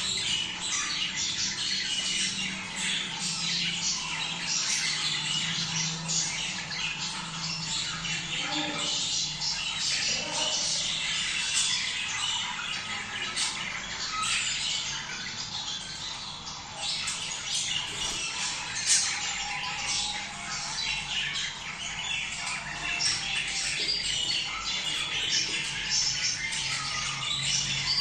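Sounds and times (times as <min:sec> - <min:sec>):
budgerigar flock chattering: 0:00.0 - 0:28.0.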